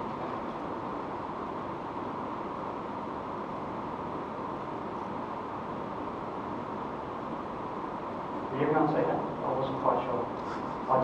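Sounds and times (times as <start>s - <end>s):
room noise hiss: 0.0s - 11.0s.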